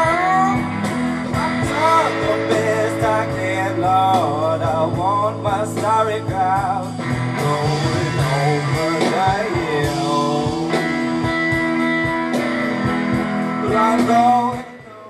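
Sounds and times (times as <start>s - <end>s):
song with guitar and singing: 0.0s - 15.0s.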